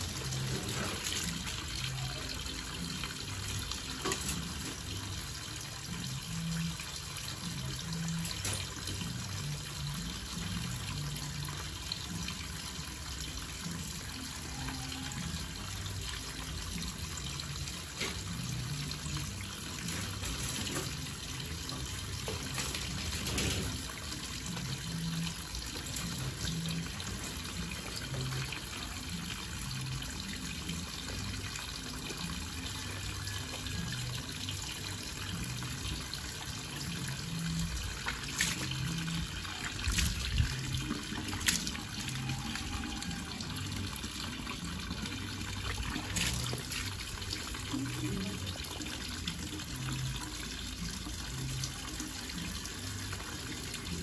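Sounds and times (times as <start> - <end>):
tap water running: 0.0 - 54.0.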